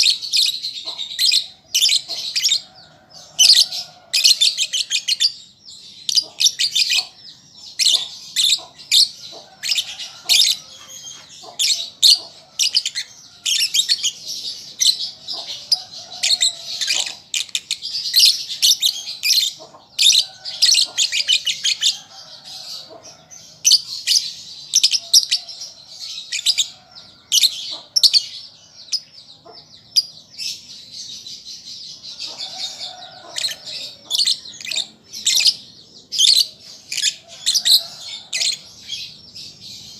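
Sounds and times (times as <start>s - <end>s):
lovebird chattering in shrill chirps: 0.0s - 39.9s.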